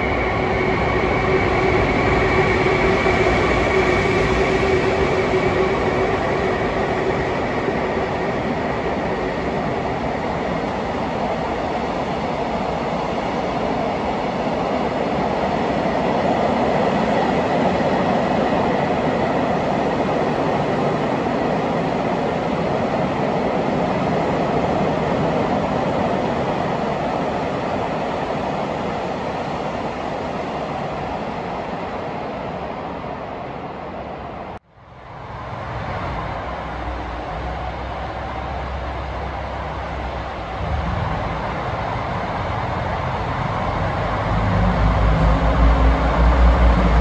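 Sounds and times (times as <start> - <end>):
train wheels rumbling on track: 0.0 - 32.4, 34.8 - 47.0.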